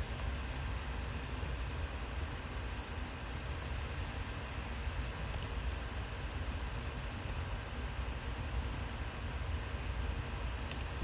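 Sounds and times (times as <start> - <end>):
low room rumble with hiss: 0.0 - 11.0.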